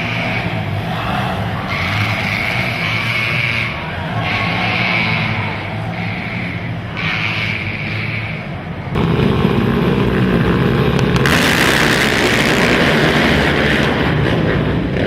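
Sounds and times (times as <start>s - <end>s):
quad engines booming rumble: 0.0s - 15.0s.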